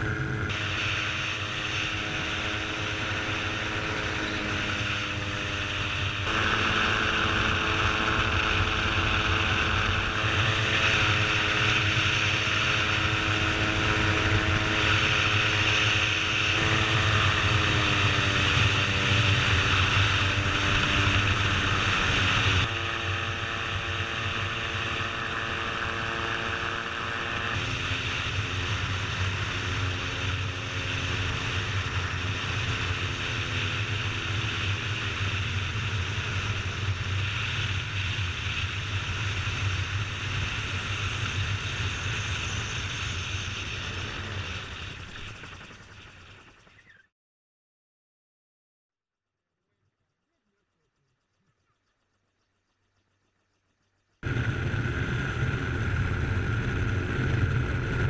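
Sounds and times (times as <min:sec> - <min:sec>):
aircraft engine and propeller: 0:00.0 - 0:47.1, 0:52.6 - 0:58.0.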